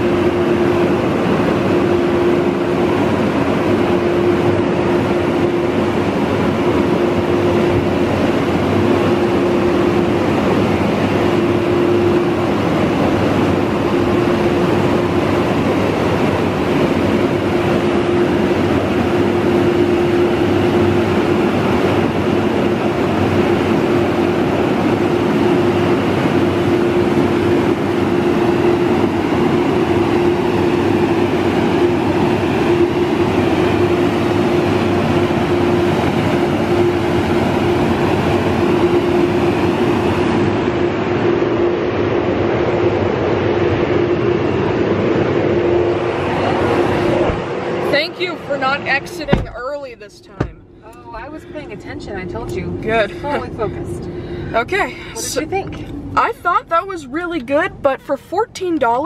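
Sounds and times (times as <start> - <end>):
dryer blowers rushing air: 0.0 - 59.0
steady hum: 0.0 - 59.0.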